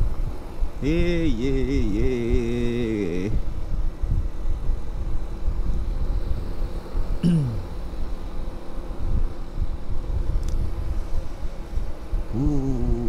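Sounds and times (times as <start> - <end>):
wavering pitched hum: 0.0 - 13.0
wind and road rumble: 0.0 - 13.0.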